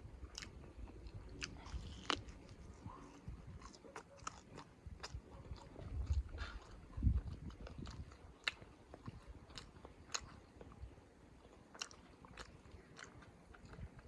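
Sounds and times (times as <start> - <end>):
mouth clicks and crunches: 0.1 - 14.0
person chewing food: 0.2 - 14.0.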